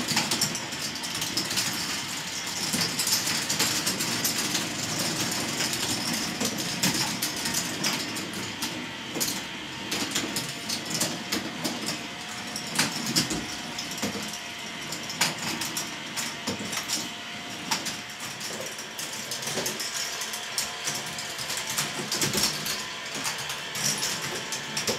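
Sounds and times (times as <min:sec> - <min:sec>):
lift motors humming: 0:00.0 - 0:24.9.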